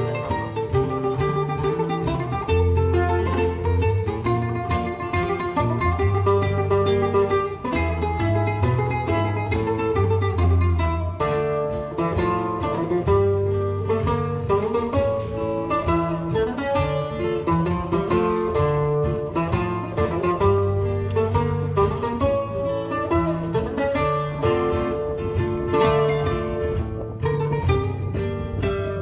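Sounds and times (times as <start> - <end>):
held bass notes: 0.0 - 29.0
quickly picked guitar: 0.0 - 29.0.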